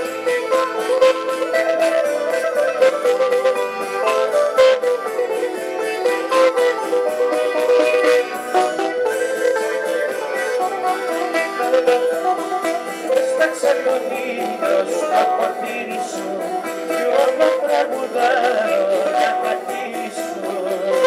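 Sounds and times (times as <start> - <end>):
acoustic guitar chords: 0.0 - 21.0
bouzouki plucked melody: 0.0 - 21.0
keyboard: 0.0 - 21.0.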